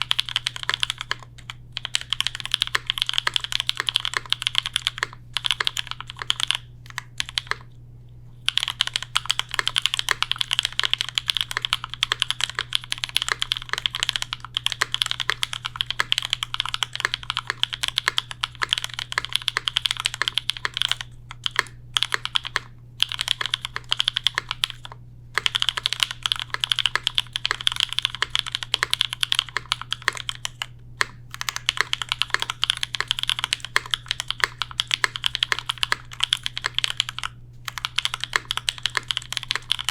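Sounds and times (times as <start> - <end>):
mechanical keyboard typing: 0.0 - 7.7, 8.5 - 39.9
faint low hum: 0.0 - 39.9.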